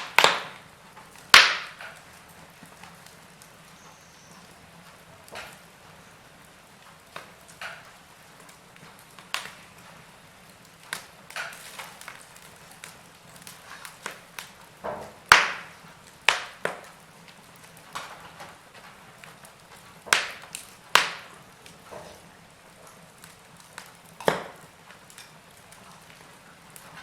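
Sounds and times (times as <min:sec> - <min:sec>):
soft fire hiss: 0:00.0 - 0:27.0
wood fire crackling and popping: 0:00.0 - 0:27.0.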